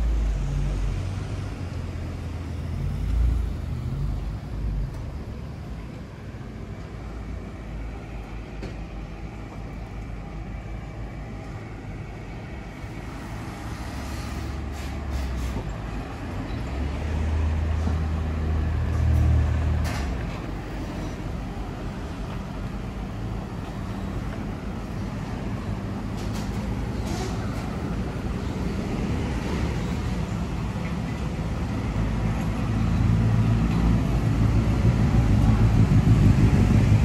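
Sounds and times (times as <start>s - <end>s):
road traffic rumbling: 0.0s - 37.0s.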